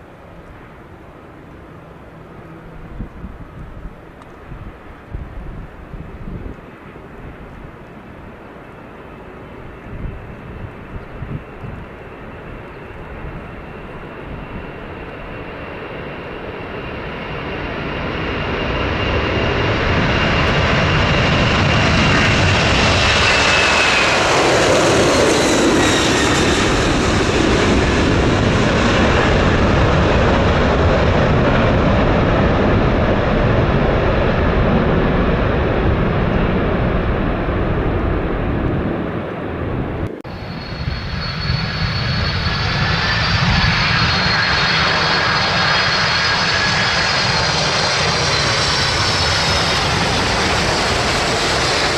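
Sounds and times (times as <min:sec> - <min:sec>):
jet airliner engines passing: 0:00.0 - 0:51.9
jet engines steady high whine: 0:00.0 - 0:51.9.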